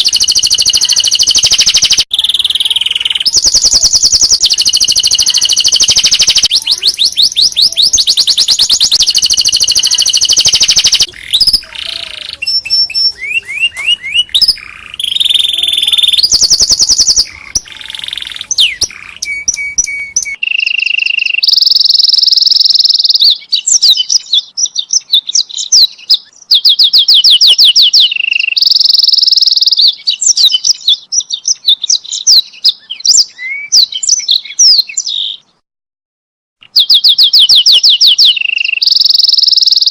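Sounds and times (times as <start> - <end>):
canary singing trills: 0.0 - 35.6, 36.6 - 39.9.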